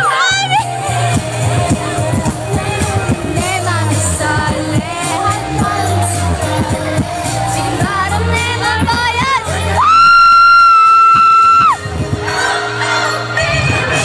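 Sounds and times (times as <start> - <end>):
bass beat: 0.0 - 12.5
pop song with female vocals: 0.0 - 14.0.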